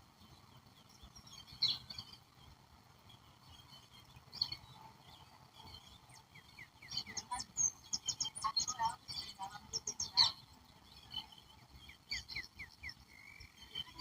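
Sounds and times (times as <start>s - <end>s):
birds chirping: 0.0s - 14.0s
faint low background noise: 0.0s - 14.0s.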